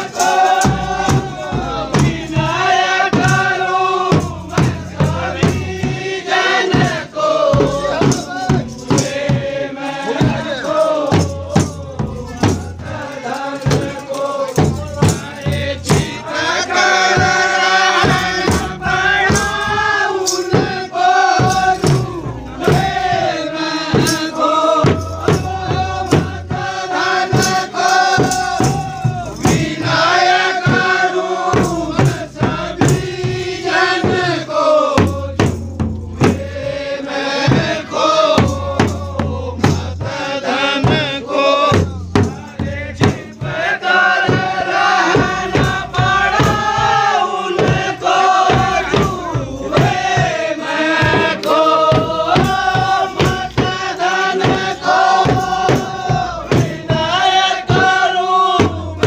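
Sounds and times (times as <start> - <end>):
drums beaten with sticks: 0.0 - 59.0
men singing together: 0.0 - 59.0.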